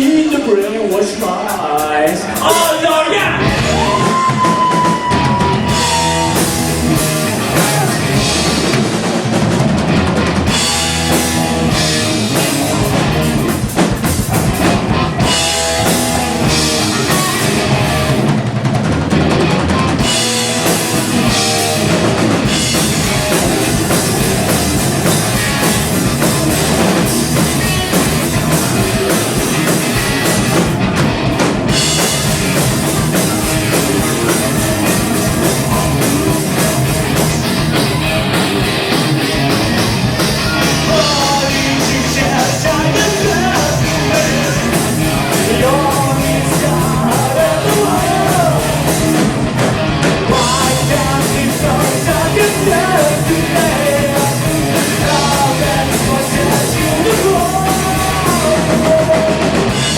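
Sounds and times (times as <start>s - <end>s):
bass guitar: 0.0s - 59.9s
distorted electric guitars: 0.0s - 59.9s
drum kit with cymbal hits: 0.0s - 59.9s.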